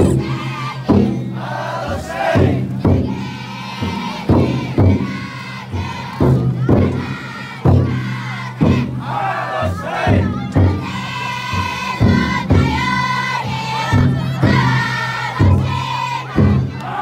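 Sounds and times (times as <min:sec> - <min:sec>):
crowd chanting and shouting: 0:00.0 - 0:17.0
taiko drum beaten: 0:00.0 - 0:17.0.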